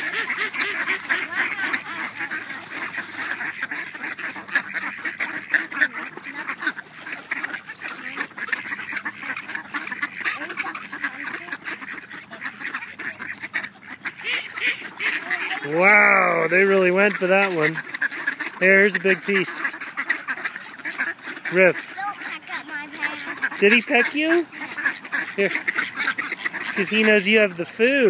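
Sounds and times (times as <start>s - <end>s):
ducks quacking: 0.0s - 28.0s.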